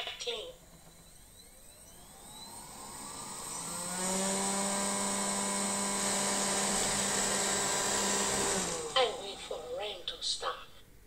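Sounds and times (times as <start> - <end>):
robot vacuum motor whine: 0.6 - 9.7.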